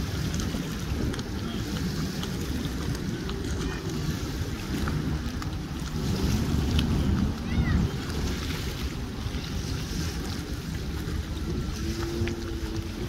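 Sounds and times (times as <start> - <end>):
distant boat motors: 0.0 - 13.0
water lapping on concrete: 0.0 - 13.0
wind buffeting microphone: 0.0 - 13.0.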